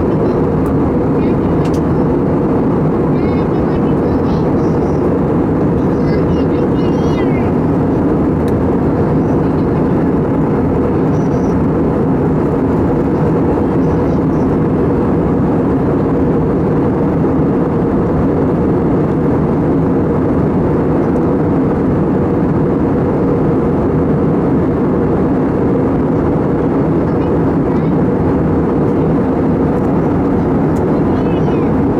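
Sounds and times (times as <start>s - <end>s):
jet engine cabin hum: 0.0s - 31.9s.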